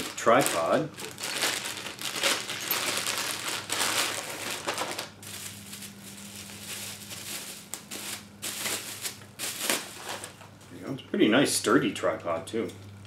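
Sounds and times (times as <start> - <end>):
plastic and bubble wrap crinkling: 0.0 - 10.5.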